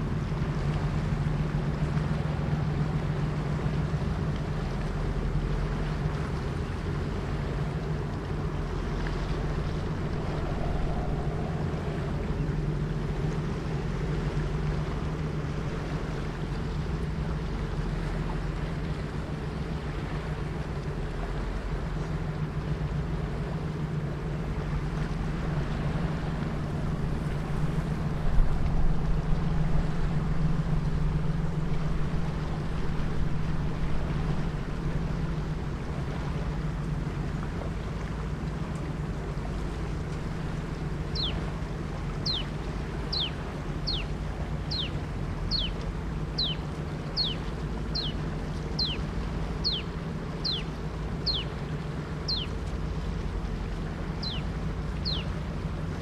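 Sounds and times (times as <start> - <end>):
barge engine droning: 0.0 - 56.0
water noise: 0.0 - 56.0
wind: 0.0 - 56.0.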